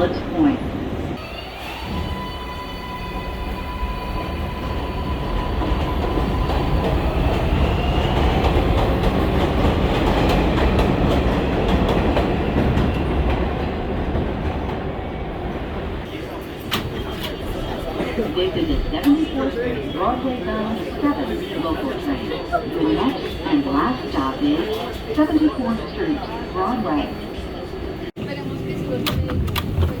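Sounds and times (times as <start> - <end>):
subway train motors whining: 0.0 - 30.0.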